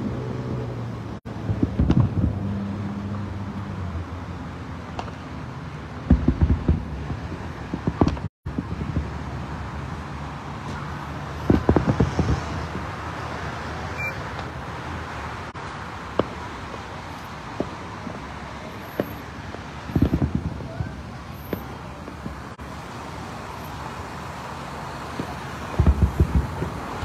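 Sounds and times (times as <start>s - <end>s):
road traffic noise: 0.0s - 27.0s.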